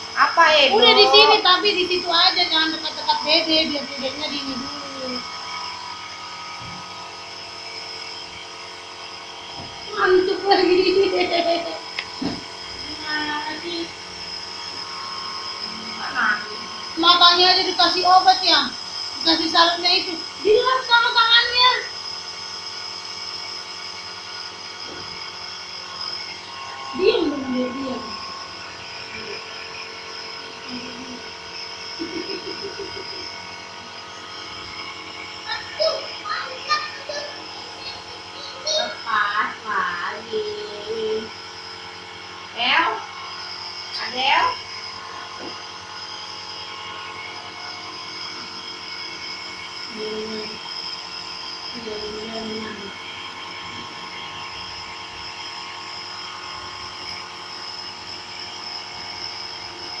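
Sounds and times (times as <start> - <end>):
nebulizer humming: 0.0 - 60.0.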